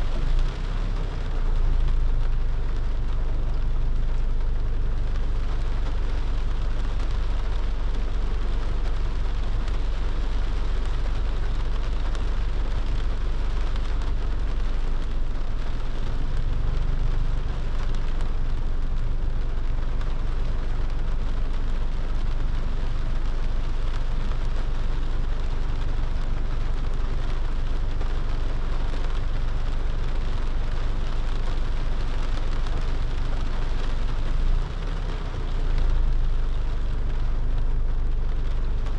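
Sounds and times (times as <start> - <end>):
car rumble: 0.0 - 38.9
rain and wet road hiss: 0.0 - 38.9.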